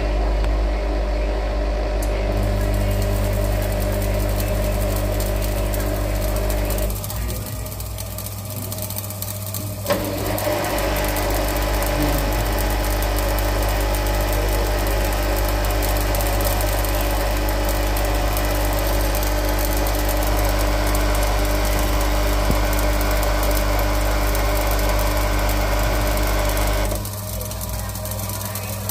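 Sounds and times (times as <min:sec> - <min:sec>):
washing machine motor running: 0:00.0 - 0:28.9.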